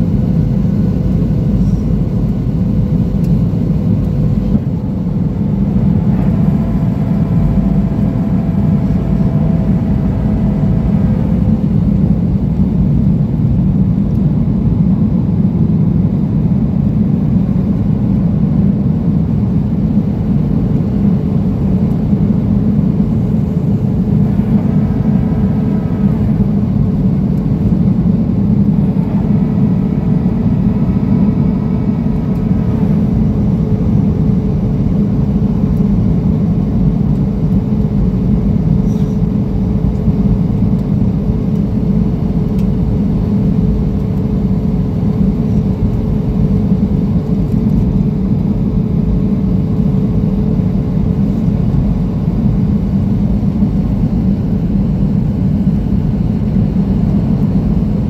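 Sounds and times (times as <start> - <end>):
faint steady hum: 0.0 - 58.0
jet engine and air rumble: 0.0 - 58.0.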